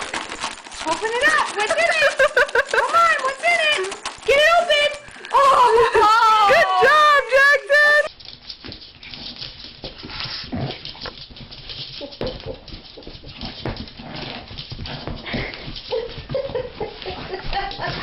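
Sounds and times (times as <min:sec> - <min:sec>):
scratchy rustling noises: 0:00.0 - 0:18.0.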